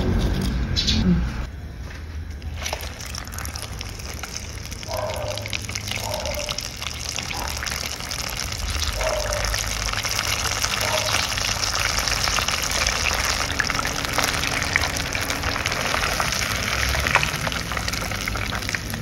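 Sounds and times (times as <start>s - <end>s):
oil sizzling and crackling: 2.4s - 19.0s.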